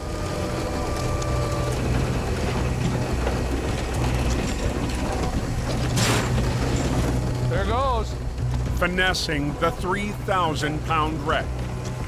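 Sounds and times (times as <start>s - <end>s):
truck engine low hum: 0.0s - 12.0s
winch mechanical clatter: 0.0s - 12.0s.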